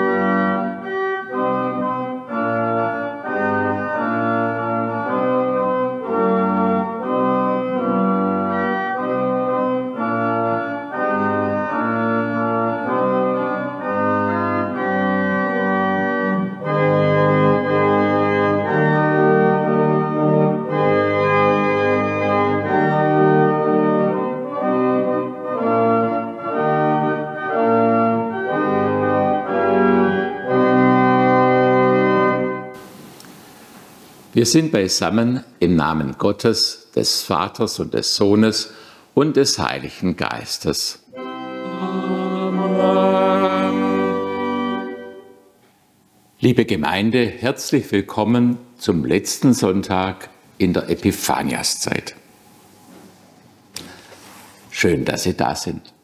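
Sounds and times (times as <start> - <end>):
church organ chords: 0.0 - 33.7, 37.1 - 52.2.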